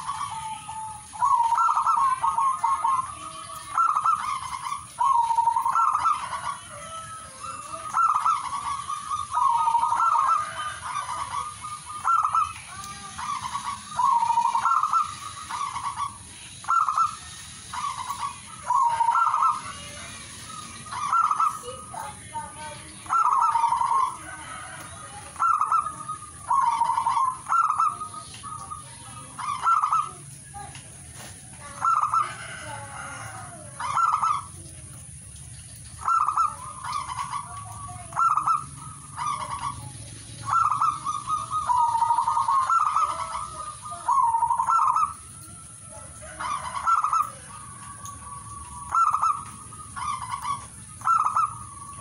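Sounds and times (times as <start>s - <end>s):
dove cooing: 0.0s - 52.0s.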